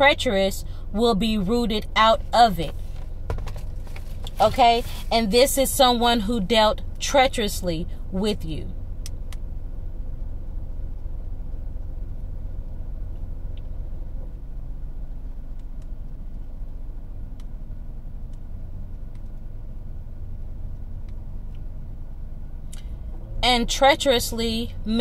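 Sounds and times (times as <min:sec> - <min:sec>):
faint hum: 0:00.0 - 0:25.0
low rumble: 0:00.0 - 0:25.0.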